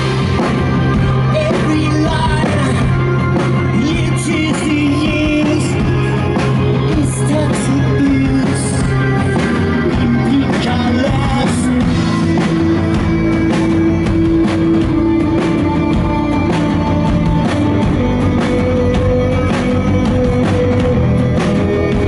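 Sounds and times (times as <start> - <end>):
live rock band playing: 0.0 - 22.0
person singing: 1.0 - 22.0.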